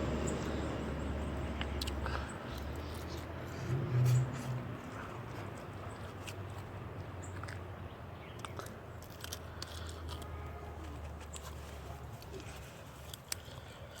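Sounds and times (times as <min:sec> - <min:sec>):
distant traffic rumble: 0:00.0 - 0:14.0
small clicks and crunches: 0:01.6 - 0:07.6, 0:08.3 - 0:14.0.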